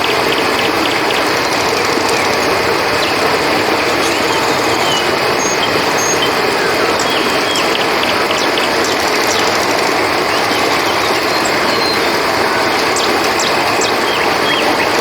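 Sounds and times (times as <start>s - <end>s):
crickets chirping: 0.0s - 15.0s
river water rushing: 0.0s - 15.0s.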